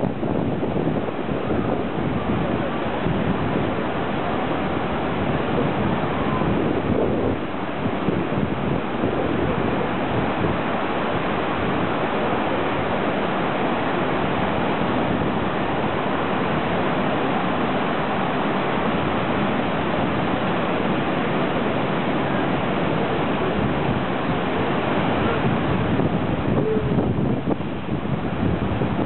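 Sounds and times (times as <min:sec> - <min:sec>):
heavy surf breaking on beach: 0:00.0 - 0:29.0.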